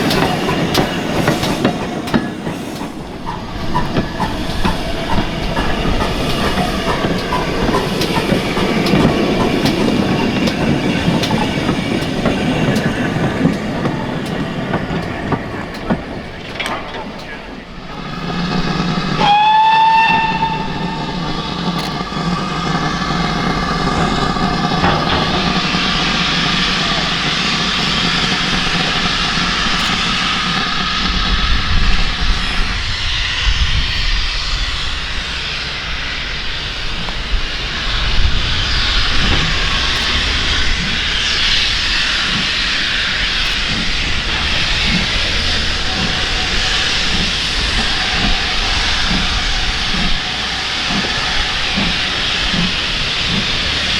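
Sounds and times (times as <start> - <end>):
steam hissing: 0.0 - 53.9
steam locomotive whistle: 0.0 - 53.9.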